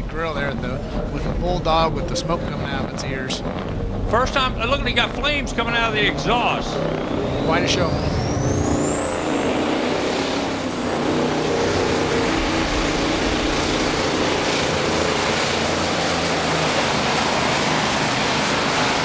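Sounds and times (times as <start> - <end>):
high whine: 0.0 - 18.2
diesel truck engine roaring: 0.0 - 19.0.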